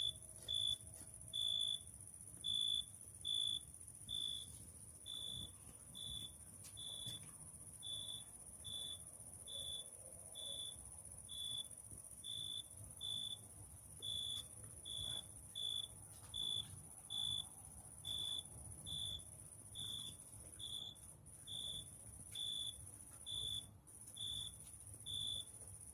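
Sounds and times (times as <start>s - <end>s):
cricket chirping: 0.0s - 25.9s
high insect trill: 0.0s - 25.9s.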